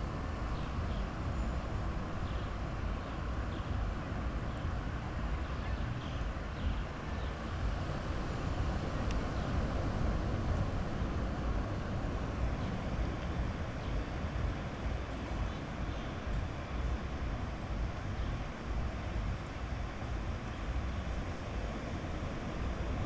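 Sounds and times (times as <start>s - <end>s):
sea waves washing on beach: 0.0s - 23.0s.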